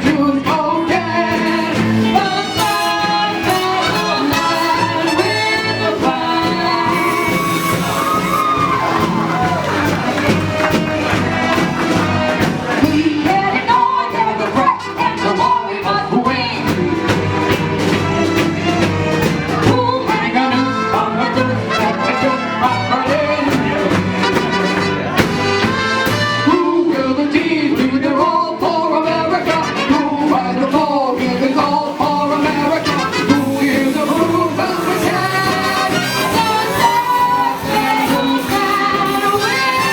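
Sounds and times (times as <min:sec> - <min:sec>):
singing over full band: 0:00.0 - 0:39.9.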